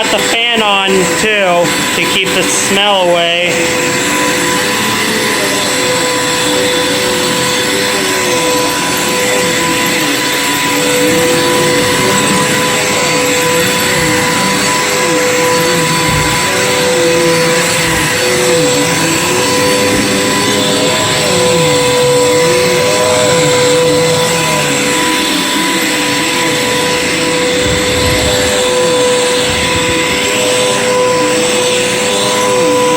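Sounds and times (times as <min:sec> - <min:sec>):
vacuum cleaner running: 0:00.0 - 0:32.9.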